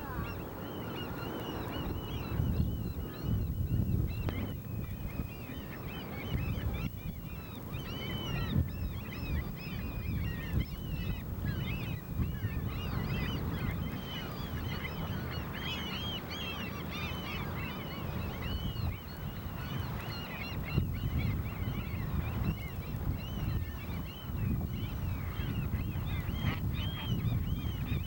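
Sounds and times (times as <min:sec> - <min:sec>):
flock of birds calling: 0:00.0 - 0:28.0.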